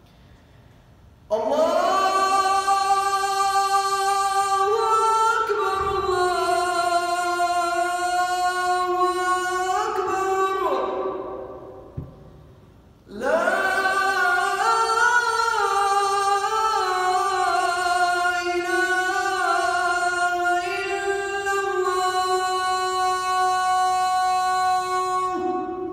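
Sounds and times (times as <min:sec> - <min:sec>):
man chanting call to prayer: 0:01.3 - 0:12.0, 0:13.1 - 0:25.9.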